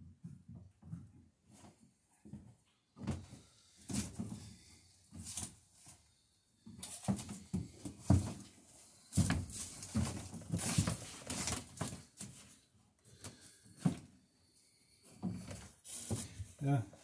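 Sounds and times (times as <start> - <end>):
footsteps and shuffling: 0.0 - 14.2, 15.0 - 17.0.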